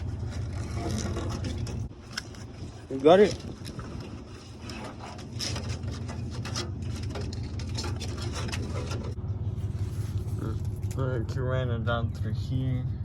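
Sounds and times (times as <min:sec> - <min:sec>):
hands rubbing and scraping parts: 0:00.0 - 0:11.0
steady low rumble: 0:00.0 - 0:13.0.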